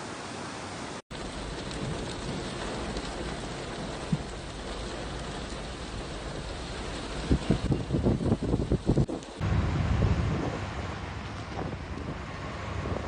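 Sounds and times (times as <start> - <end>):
heavy rain falling: 0.2 - 13.0.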